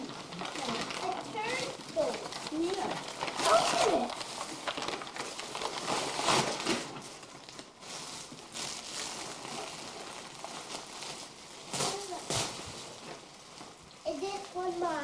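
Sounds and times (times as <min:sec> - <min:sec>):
wrapping paper rustling and tearing: 0:00.0 - 0:15.0.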